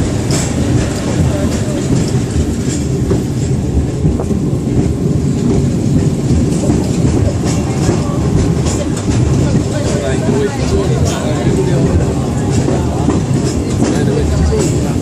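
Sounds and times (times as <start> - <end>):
funicular car rumbling on rails: 0.0 - 15.0.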